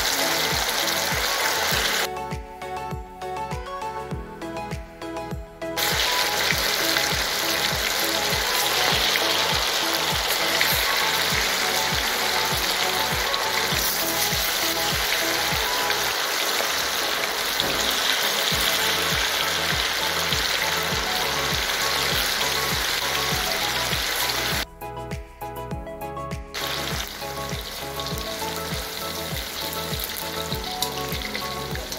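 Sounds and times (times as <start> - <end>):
oil sizzling in deep fryer: 0.0 - 2.1, 5.8 - 24.6, 26.6 - 31.9
background music with steady beat: 0.0 - 31.9.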